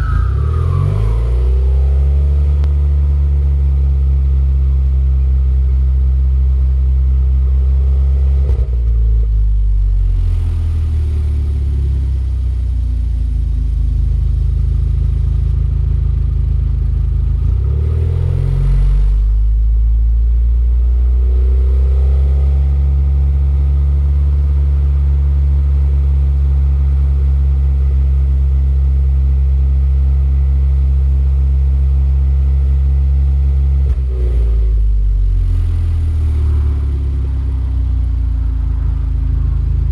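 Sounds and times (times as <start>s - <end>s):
car engine and exhaust droning: 0.0s - 39.9s.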